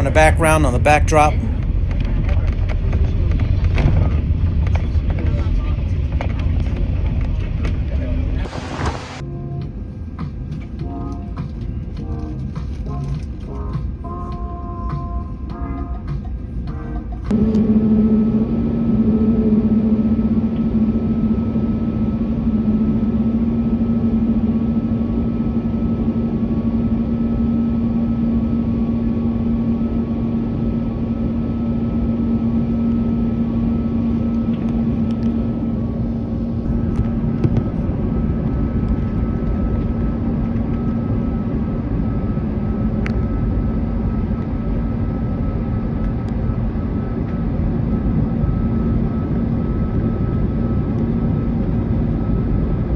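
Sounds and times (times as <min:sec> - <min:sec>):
engine rumble: 0:00.0 - 0:52.9.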